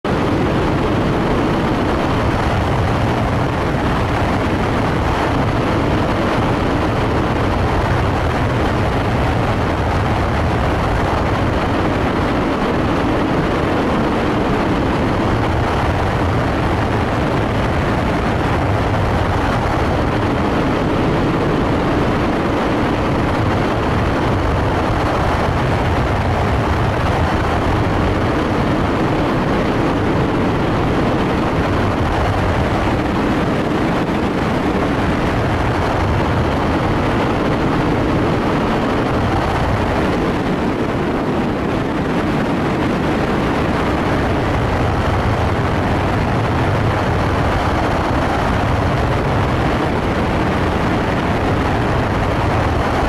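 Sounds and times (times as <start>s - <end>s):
aircraft cabin airflow noise: 0.0s - 53.0s.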